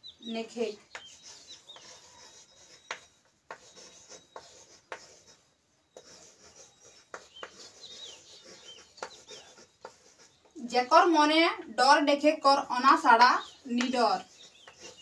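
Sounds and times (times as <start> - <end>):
faint bird chirps: 0.0 - 11.7, 12.4 - 15.0
chalk scratching: 0.2 - 11.4, 12.2 - 15.0
chalk tapping on chalkboard: 0.6 - 11.2, 12.8 - 15.0.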